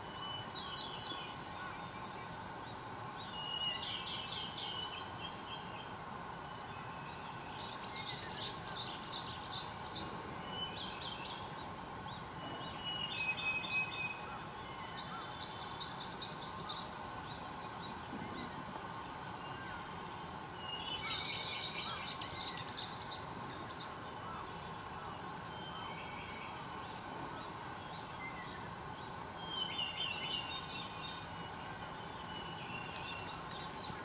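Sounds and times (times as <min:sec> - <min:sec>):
outdoor background hiss: 0:00.0 - 0:34.0
songbirds singing: 0:00.2 - 0:34.0.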